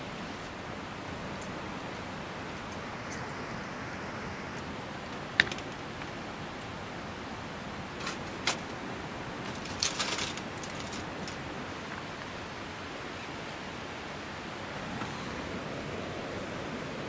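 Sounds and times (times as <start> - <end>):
steady rushing background noise: 0.0 - 17.0.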